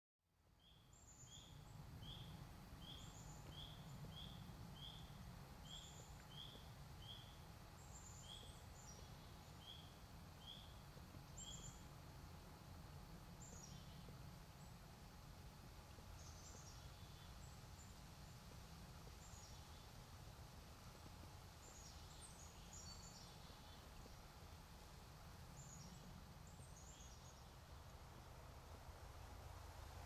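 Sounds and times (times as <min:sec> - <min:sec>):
low steady rumble: 0:00.3 - 0:30.0.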